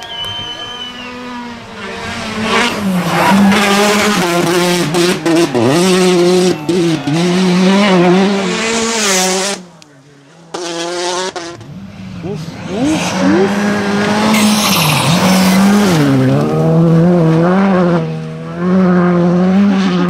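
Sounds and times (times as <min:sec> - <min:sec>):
rally car engine at high revs: 0:00.3 - 0:20.0.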